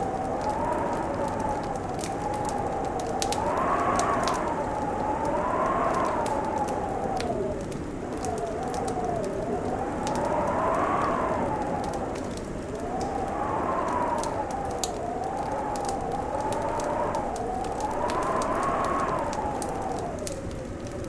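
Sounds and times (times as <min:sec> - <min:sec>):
howling wind: 0:00.0 - 0:21.0
wood fire crackling and popping: 0:00.0 - 0:21.0.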